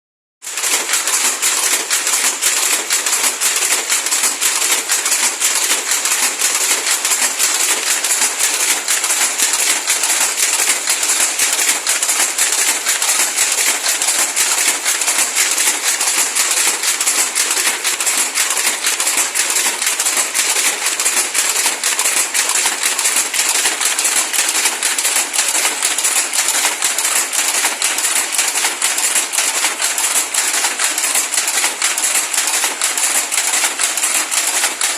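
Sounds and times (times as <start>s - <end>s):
power loom clattering: 0.4s - 34.9s.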